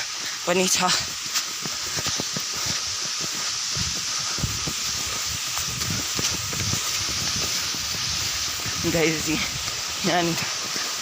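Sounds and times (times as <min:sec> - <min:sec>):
water rushing down waterfall: 0:00.0 - 0:11.0.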